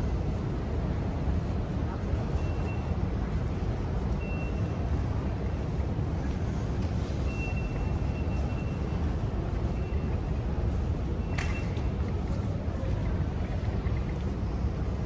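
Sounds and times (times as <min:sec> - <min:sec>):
low rumble of station hall: 0:00.0 - 0:15.0.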